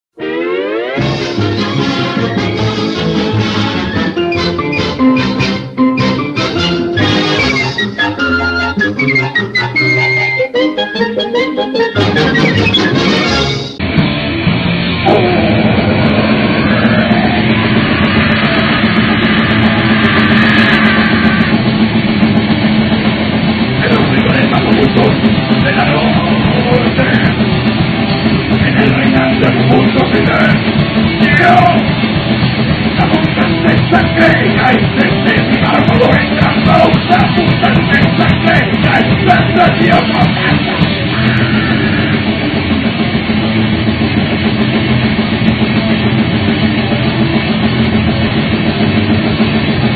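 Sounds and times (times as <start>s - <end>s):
thrash metal band with electric guitars: 1.0s - 10.2s, 11.0s - 49.9s.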